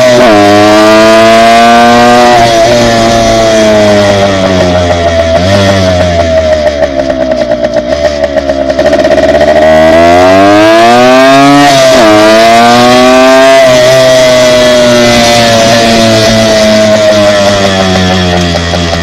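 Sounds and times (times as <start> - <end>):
dirt bike engine accelerating: 0.0 - 19.0.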